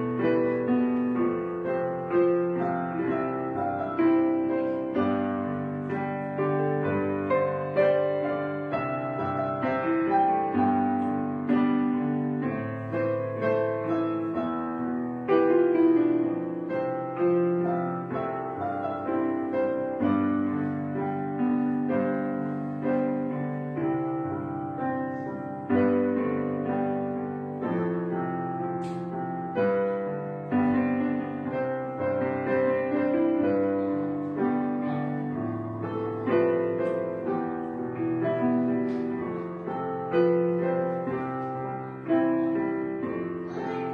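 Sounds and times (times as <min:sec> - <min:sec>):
piano music: 0:00.0 - 0:43.9.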